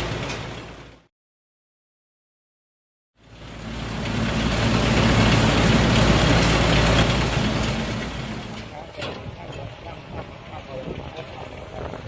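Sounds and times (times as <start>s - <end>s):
combine harvester diesel engine: 0.0s - 1.1s, 3.2s - 12.0s.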